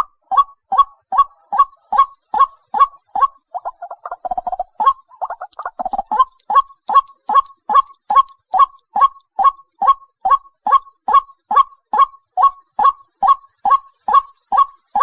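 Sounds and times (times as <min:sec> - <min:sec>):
bird harsh repeated call: 0:00.0 - 0:15.0.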